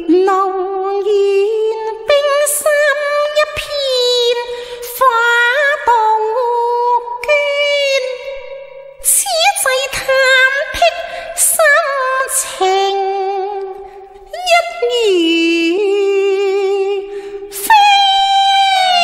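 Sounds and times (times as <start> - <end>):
woman singing opera: 0.0 - 19.0.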